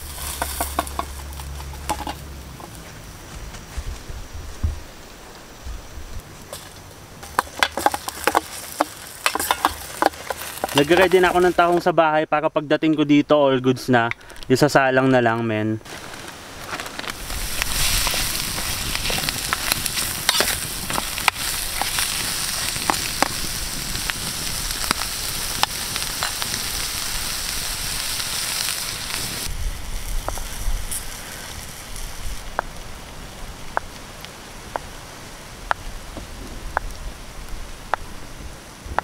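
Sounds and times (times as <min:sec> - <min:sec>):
mussels sizzling with crackling pops: 0:00.0 - 0:02.9, 0:06.5 - 0:12.0, 0:13.8 - 0:39.0.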